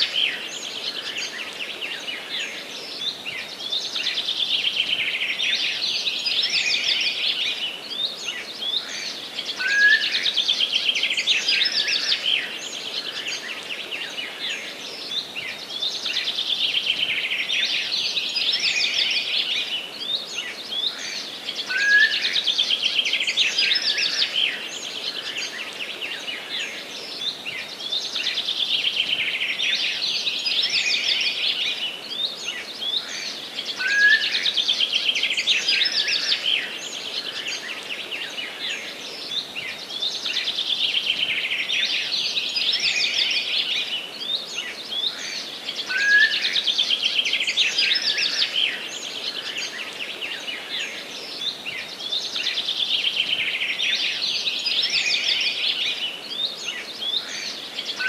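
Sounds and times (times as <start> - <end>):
background hiss: 0.0 - 58.0
songbirds trilling: 0.0 - 58.0.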